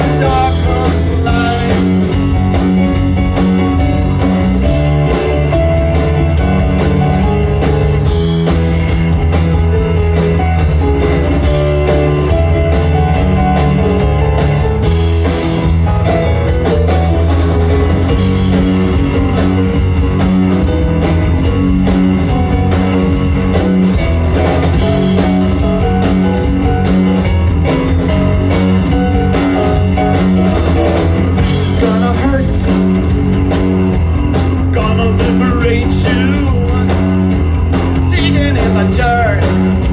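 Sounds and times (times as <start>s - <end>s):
drum kit: 0.0s - 39.9s
electric bass: 0.0s - 39.9s
electric guitar: 0.0s - 39.9s
keyboard: 0.0s - 39.9s.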